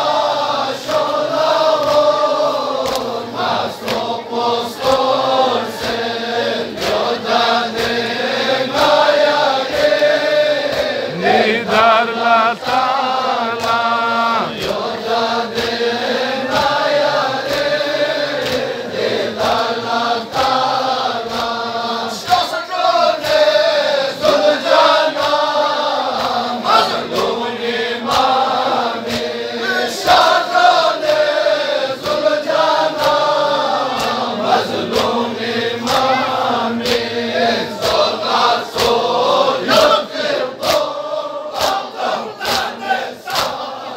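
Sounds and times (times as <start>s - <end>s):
male chorus chanting a lament: 0.0s - 43.9s.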